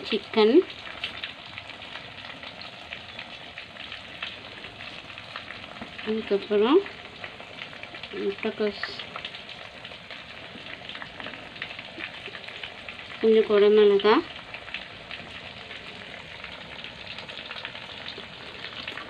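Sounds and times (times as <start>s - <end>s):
oil sizzling in a frying pan: 0.0s - 19.0s.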